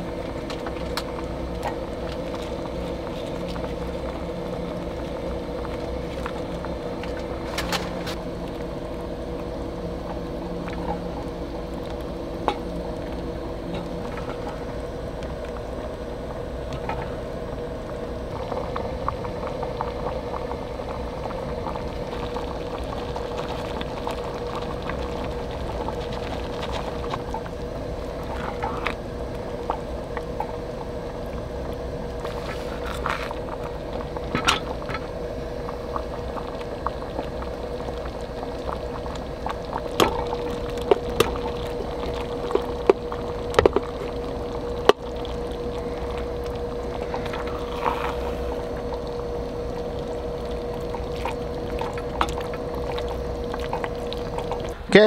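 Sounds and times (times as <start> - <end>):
sauce simmering and bubbling: 0.0 - 54.8.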